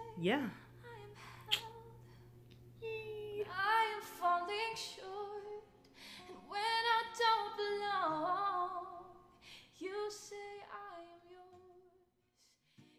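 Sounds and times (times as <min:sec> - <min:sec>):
woman singing slow melody: 0:00.0 - 0:12.9.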